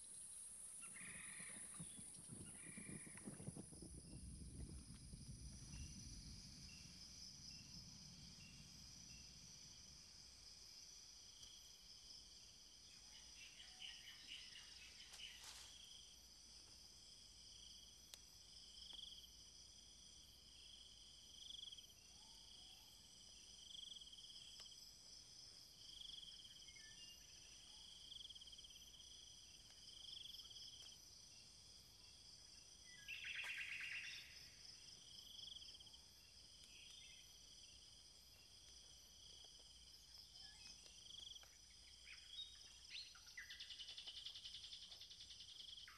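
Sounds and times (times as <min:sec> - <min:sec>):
buzzy insect calls: 0:00.0 - 0:45.9
insect chirp: 0:00.0 - 0:45.9
insects trilling: 0:00.0 - 0:45.9.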